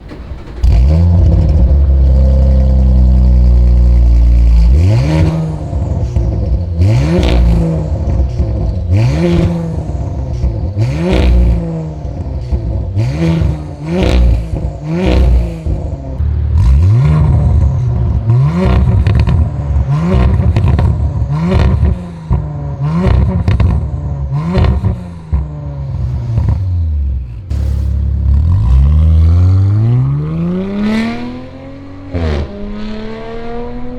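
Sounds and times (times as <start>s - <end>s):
exhaust crackles: 0.0s - 32.8s
car engine revving: 0.0s - 33.9s.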